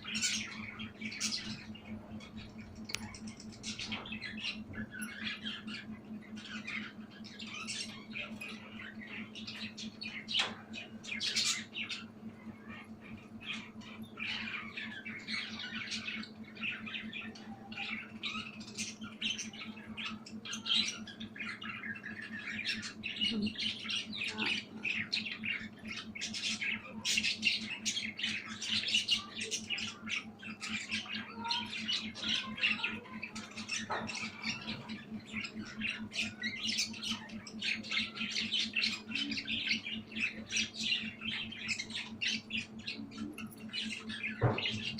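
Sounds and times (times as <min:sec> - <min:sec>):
budgerigars chirping and squawking: 0:00.0 - 0:44.9
steady low hum: 0:00.0 - 0:44.9.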